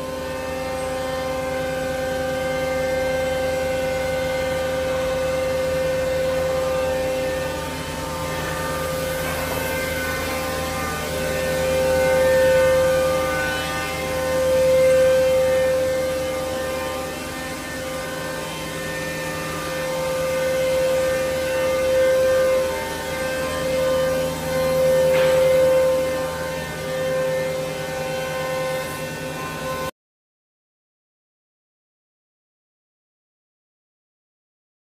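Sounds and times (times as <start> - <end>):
woodworking machine whining: 0.0 - 29.9.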